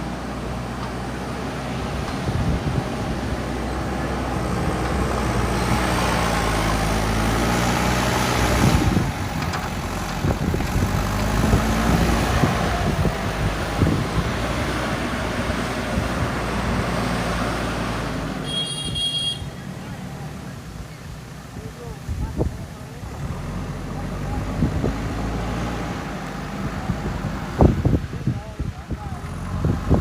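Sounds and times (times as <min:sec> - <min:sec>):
backhoe diesel engine under load: 0:00.0 - 0:30.0.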